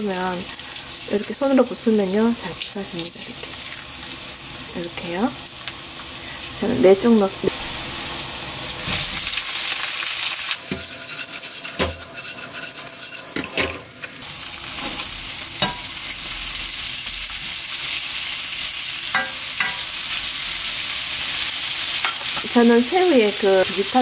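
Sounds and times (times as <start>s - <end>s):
oil sizzling in a wok: 0.0s - 24.0s
shrimp frying in oil: 0.0s - 24.0s.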